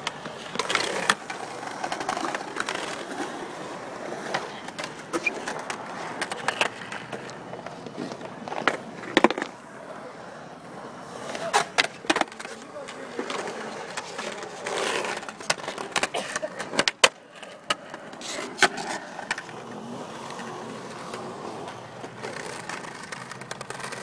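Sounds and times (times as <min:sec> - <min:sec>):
skateboard rolling on concrete: 0:00.0 - 0:24.0
skateboard wheels clacking over joints: 0:00.0 - 0:24.0.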